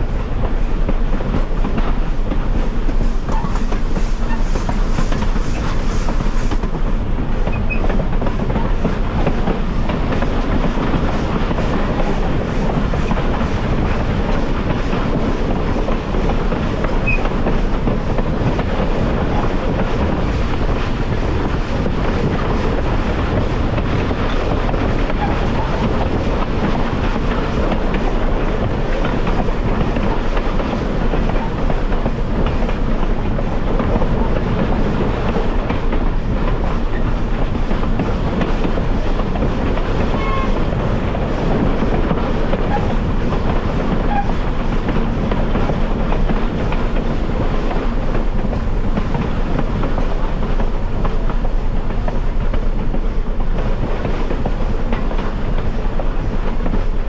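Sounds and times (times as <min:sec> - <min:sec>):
clickety-clack of rail joints: 0:00.0 - 0:57.0
train wheels rumbling on rail: 0:00.0 - 0:57.0.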